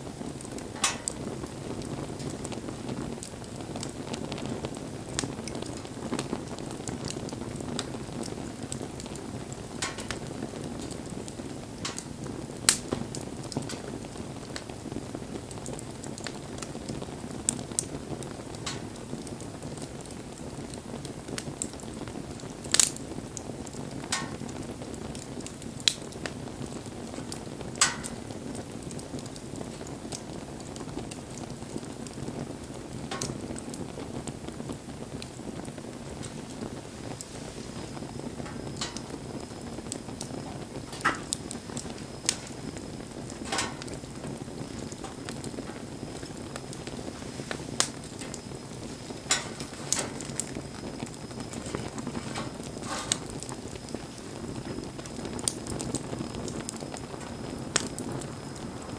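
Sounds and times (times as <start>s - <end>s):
fire flames rushing: 0.0s - 58.9s
wood crackling and popping: 0.0s - 58.9s.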